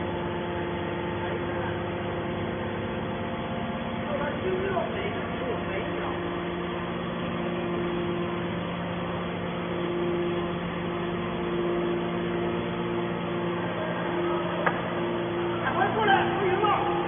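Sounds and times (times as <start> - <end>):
higher machine tone: 0.0 - 17.0
hydraulic motor and pump hum: 0.0 - 17.0.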